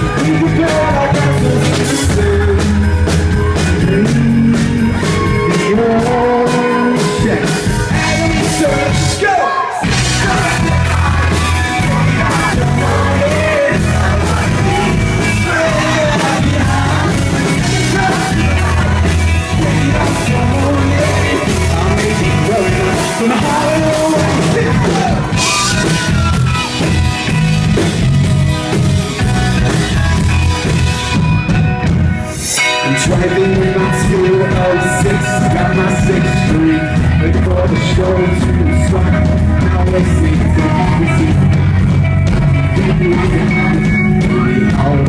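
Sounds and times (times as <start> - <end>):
person singing: 0.0 - 27.0, 32.2 - 45.0
bass line: 0.0 - 45.0
drums and cymbals: 0.0 - 45.0.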